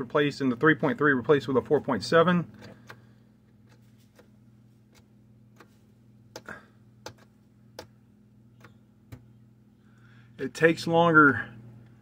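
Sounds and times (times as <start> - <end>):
refrigerator low hum: 0.0 - 12.0.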